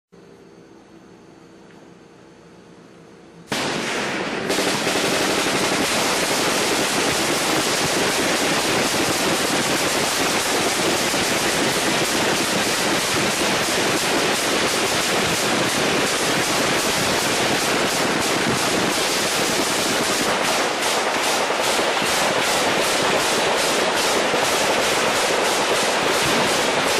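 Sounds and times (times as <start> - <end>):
faint hum: 0.2 - 26.9.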